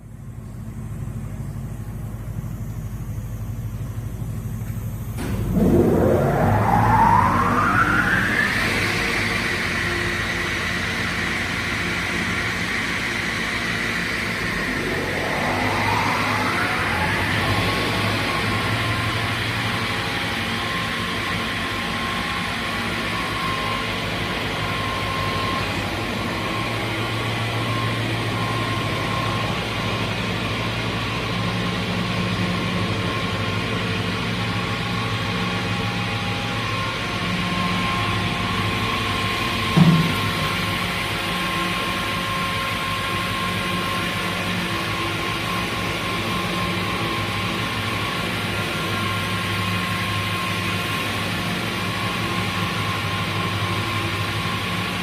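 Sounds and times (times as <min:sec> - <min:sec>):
saw running with hum and whine: 0:05.2 - 0:55.0.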